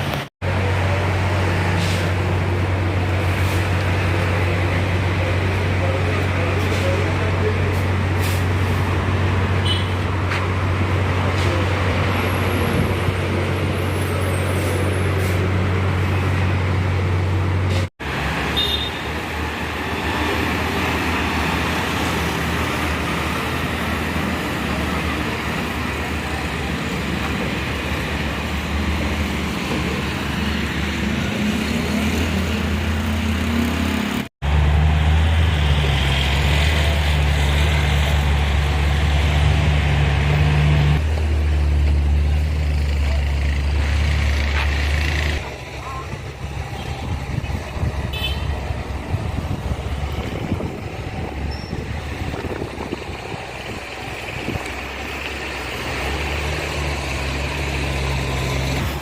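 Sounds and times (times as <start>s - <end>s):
heavy vehicle engines humming: 0.0s - 59.0s.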